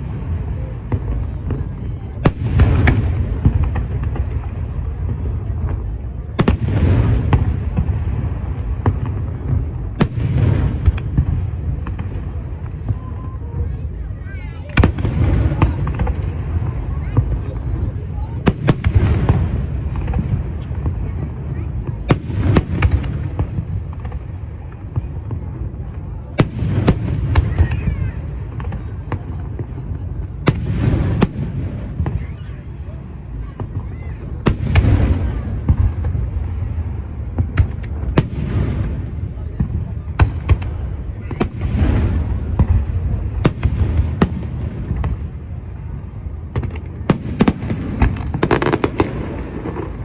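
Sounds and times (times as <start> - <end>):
fireworks bangs: 0.0 - 50.0
fireworks crackle: 0.0 - 50.0.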